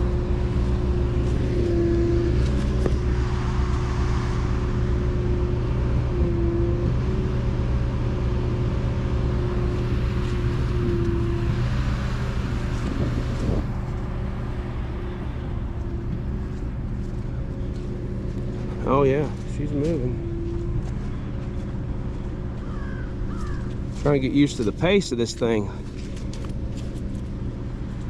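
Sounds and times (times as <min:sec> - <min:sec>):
concrete pump engine running: 0:00.0 - 0:28.0.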